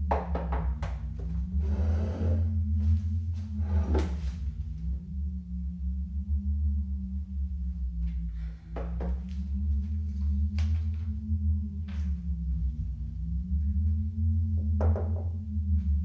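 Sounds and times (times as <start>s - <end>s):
low ambient horror drone: 0.0s - 16.0s.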